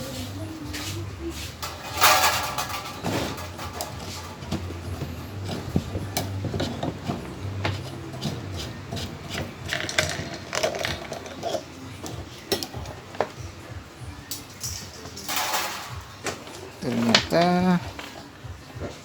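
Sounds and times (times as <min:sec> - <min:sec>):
plastic parts clicking and scraping: 0:01.6 - 0:13.4, 0:14.3 - 0:18.2.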